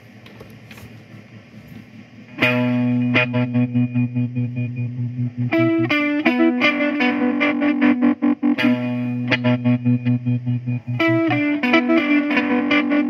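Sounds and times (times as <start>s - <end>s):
faint amp hiss and hum: 0.0s - 13.0s
distorted electric guitar chord: 2.3s - 13.0s
choppy stuttering guitar repeats: 2.4s - 13.0s.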